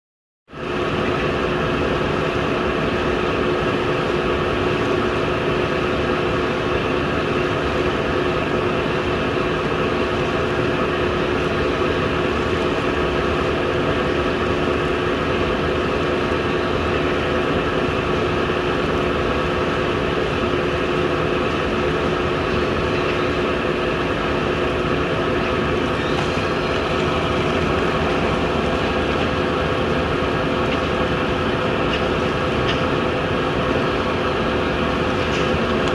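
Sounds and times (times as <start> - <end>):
boiler humming: 0.5 - 35.9.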